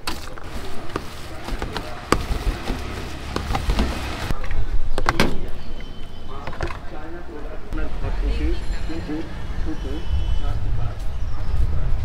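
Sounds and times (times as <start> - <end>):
street noise rumble: 0.0 - 12.0.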